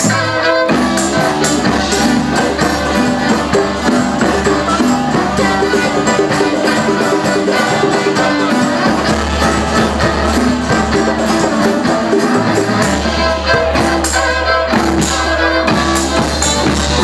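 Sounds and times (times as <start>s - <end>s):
double bass: 0.0s - 17.0s
guitar: 0.0s - 17.0s
percussion: 0.0s - 17.0s
violin lead: 0.0s - 17.0s.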